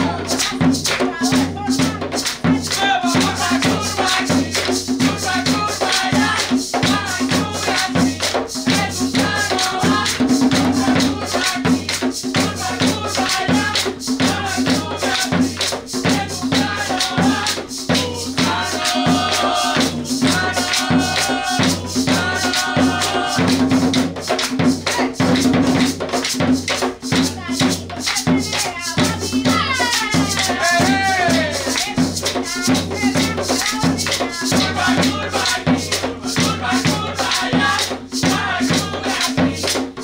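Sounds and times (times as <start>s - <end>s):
hand drums beating: 0.0s - 40.0s
shaker: 0.0s - 40.0s
hand clapping: 0.3s - 40.0s.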